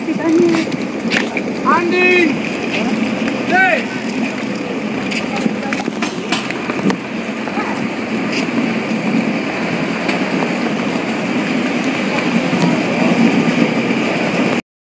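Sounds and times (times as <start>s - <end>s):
luggage wheels rumbling on deck: 0.0s - 14.6s.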